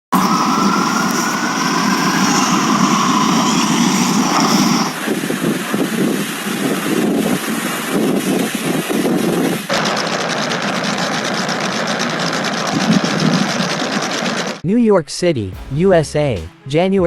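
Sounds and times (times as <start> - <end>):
engine whining and rumbling: 0.1 - 14.6.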